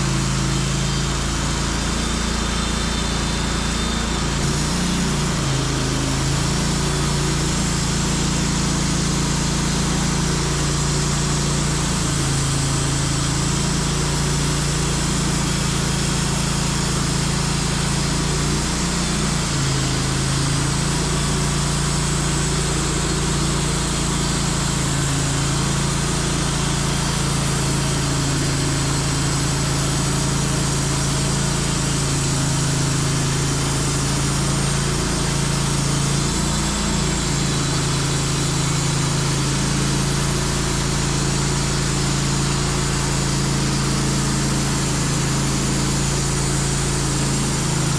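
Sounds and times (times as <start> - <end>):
band sawmill cutting log: 0.0 - 47.9.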